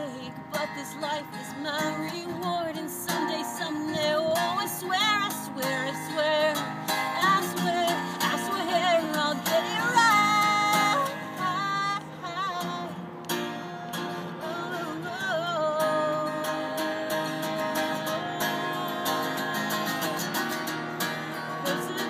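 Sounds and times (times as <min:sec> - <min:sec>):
woman singing: 0:00.0 - 0:13.0, 0:14.4 - 0:20.4, 0:21.2 - 0:22.0
acoustic guitar strumming: 0:00.0 - 0:22.0.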